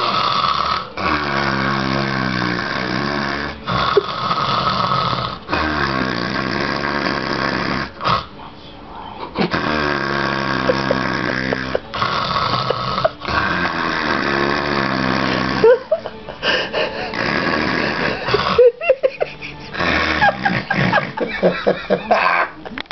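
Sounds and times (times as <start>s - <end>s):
person imitating snoring: 0.0s - 8.3s, 9.4s - 22.6s.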